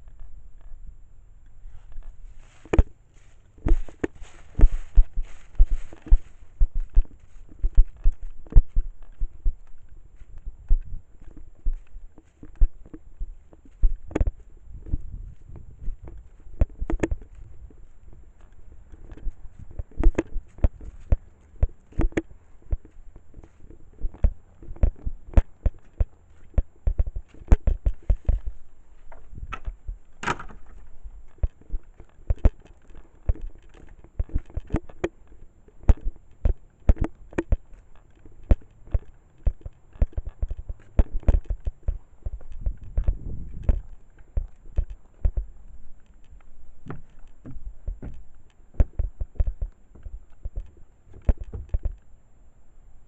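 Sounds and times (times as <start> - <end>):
wind rumbling on microphone: 0.0 - 52.0
footsteps outdoors: 0.0 - 52.2.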